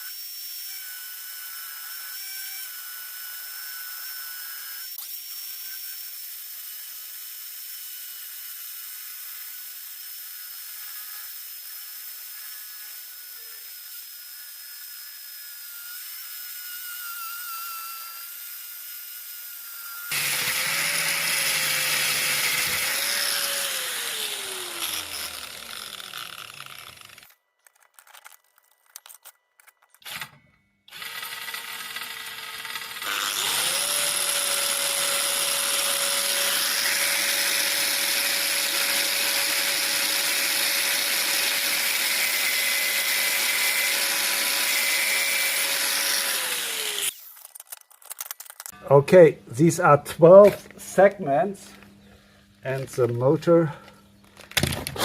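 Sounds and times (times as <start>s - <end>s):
power tool motor whining: 0.0s - 48.8s, 50.4s - 55.0s.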